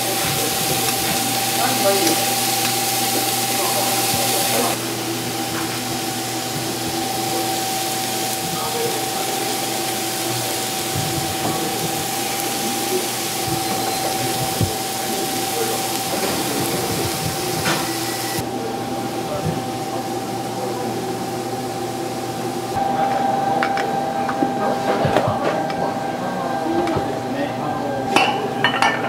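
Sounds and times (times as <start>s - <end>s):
high whine: 0.0s - 28.7s
kitchen machine hum and hiss: 0.0s - 29.0s.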